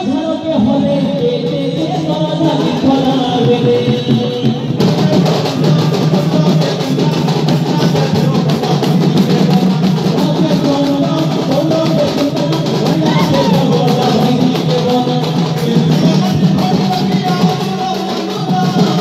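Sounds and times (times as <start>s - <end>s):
fast folk drumming: 0.0s - 19.0s.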